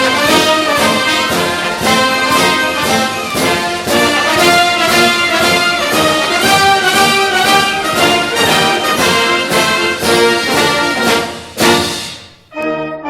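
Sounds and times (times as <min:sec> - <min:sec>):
orchestral music with brass: 0:00.0 - 0:13.0.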